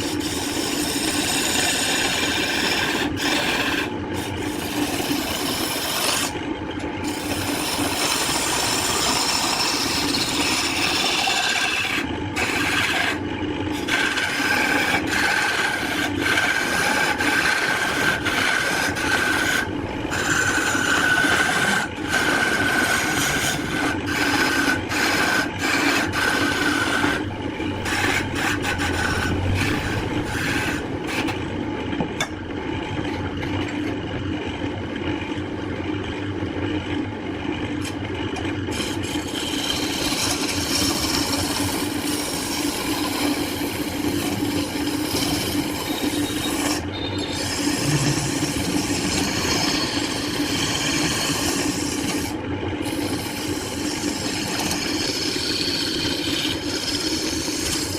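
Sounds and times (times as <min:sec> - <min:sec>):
tool rasping wood: 0:00.0 - 0:06.4, 0:07.0 - 0:31.4, 0:38.7 - 0:57.9
machine hum: 0:00.0 - 0:57.9.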